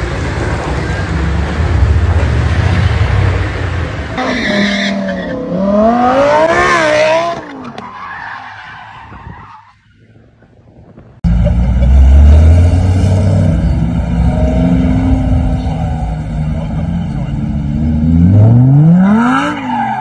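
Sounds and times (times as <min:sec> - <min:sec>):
car engine revving: 0:00.0 - 0:07.8, 0:11.3 - 0:20.0
tyres skidding: 0:00.0 - 0:20.0.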